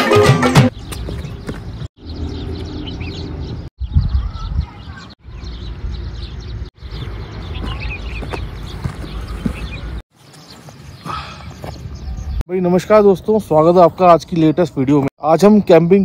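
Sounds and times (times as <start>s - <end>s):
birds chirping: 0.6s - 16.0s.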